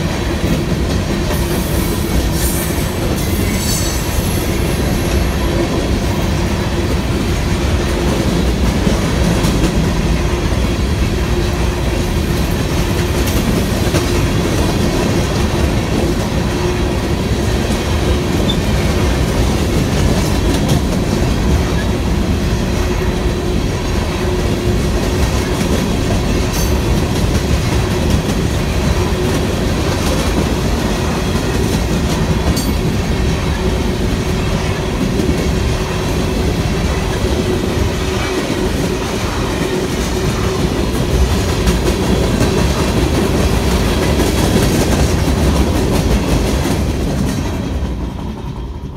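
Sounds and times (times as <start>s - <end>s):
freight train cars rolling: 0.0s - 48.9s.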